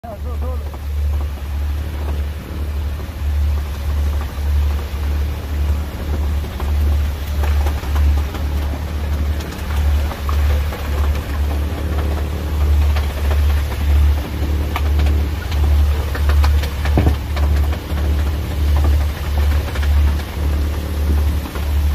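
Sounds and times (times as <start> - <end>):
boat engine throbbing: 0.0 - 21.9
water noise: 0.0 - 21.9
wind: 0.0 - 21.9.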